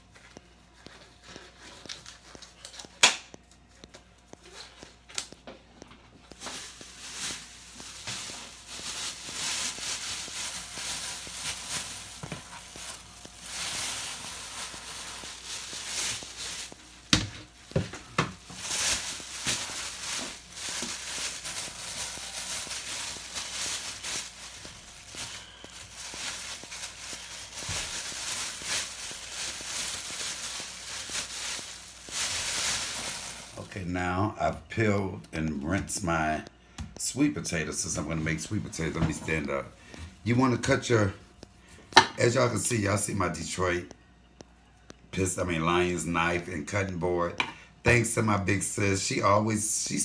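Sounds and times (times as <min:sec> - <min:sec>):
plastic bag rustling: 0:00.0 - 0:34.6, 0:37.0 - 0:43.9.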